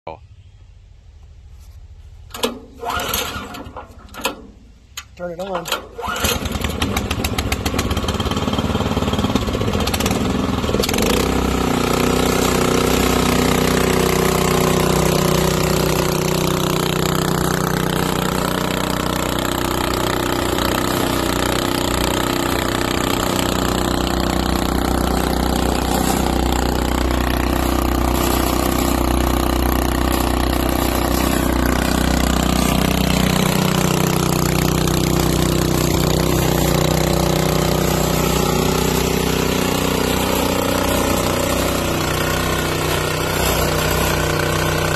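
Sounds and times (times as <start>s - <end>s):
cement mixer engine running: 6.0s - 44.9s.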